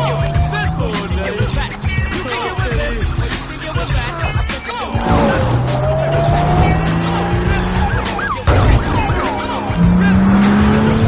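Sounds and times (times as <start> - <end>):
car engines revving: 0.0 - 11.0
film music: 0.0 - 11.0
tire squeals: 0.0 - 11.0.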